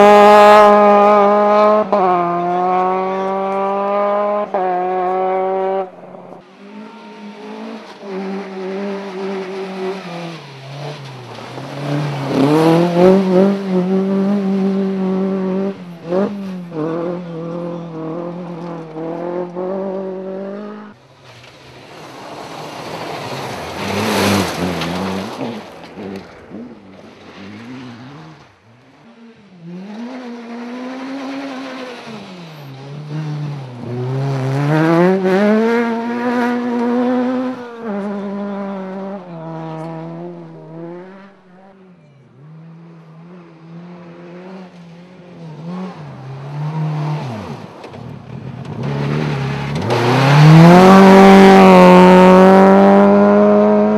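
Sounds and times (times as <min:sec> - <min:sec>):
car passing close: 0:00.0 - 0:53.9
rally car engines at high revs: 0:00.0 - 0:53.9.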